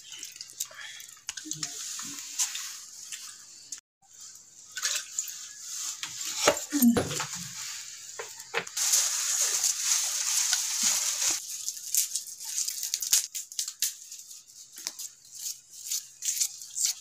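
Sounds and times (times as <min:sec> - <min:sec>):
oil hissing and sizzling: 0:00.0 - 0:17.0.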